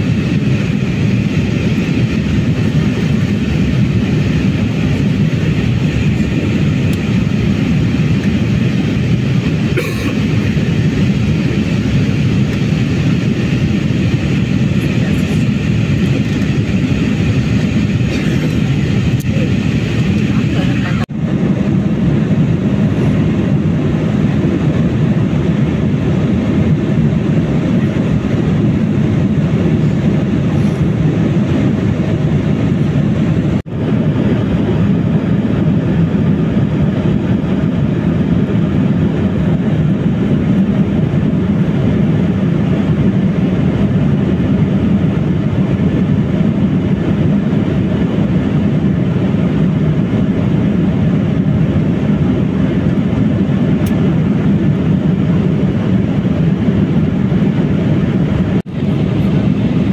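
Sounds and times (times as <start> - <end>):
air rushing along fuselage: 0.0 - 59.9
jet engines humming: 0.0 - 59.9.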